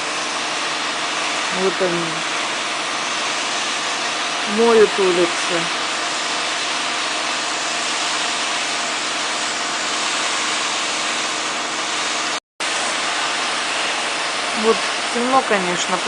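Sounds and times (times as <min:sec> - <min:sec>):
water spraying onto street: 0:00.0 - 0:16.0.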